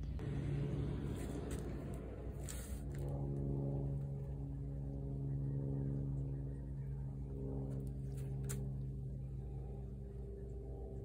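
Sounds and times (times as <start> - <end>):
motor humming steadily: 0.0 - 11.0.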